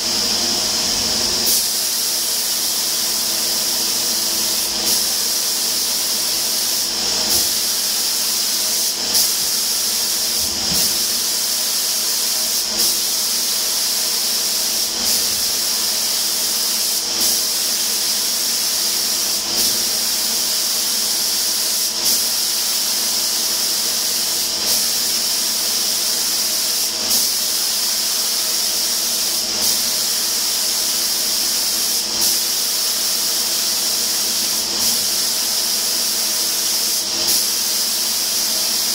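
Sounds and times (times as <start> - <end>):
spray gun hissing: 0.0 - 38.9.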